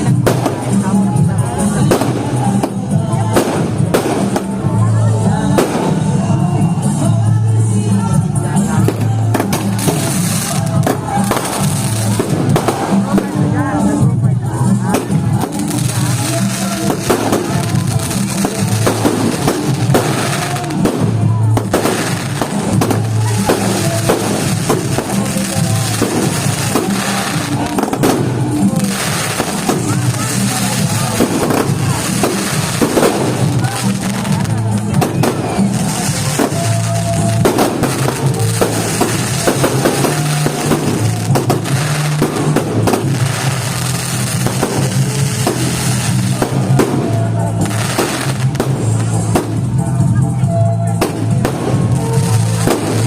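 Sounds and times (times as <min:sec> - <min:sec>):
fireworks bangs: 0:00.0 - 0:07.4, 0:08.0 - 0:53.0
music with steady bass: 0:00.0 - 0:53.0.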